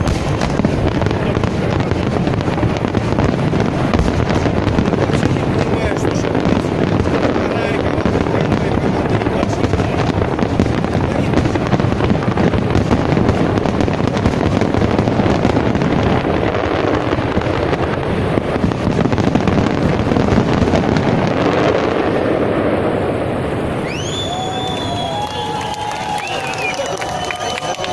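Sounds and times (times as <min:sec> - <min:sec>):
fireworks bursting and crackling: 0:00.0 - 0:27.9.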